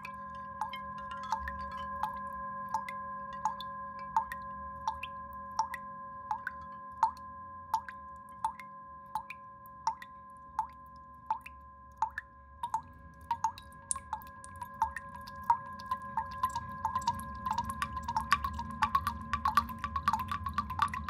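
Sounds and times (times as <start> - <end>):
steady hum of held tones: 0.0 - 21.0
water drops plopping: 2.8 - 7.2, 7.8 - 8.6, 9.2 - 21.0.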